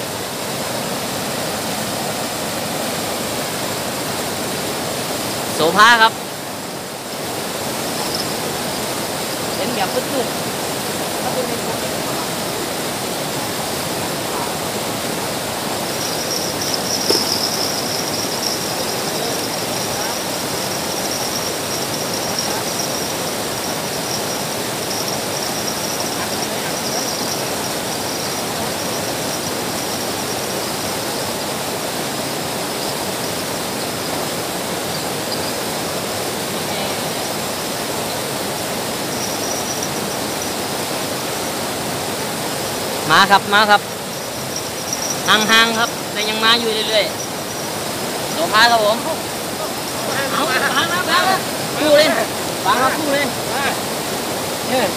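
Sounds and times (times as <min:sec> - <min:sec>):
flowing water rushing: 0:00.0 - 0:54.9
insects chirring: 0:00.0 - 0:54.9.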